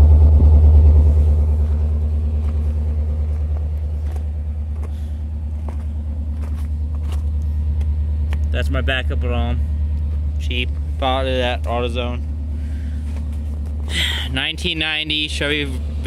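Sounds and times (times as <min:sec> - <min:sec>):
engine exhaust rumble idling: 0:00.0 - 0:16.0.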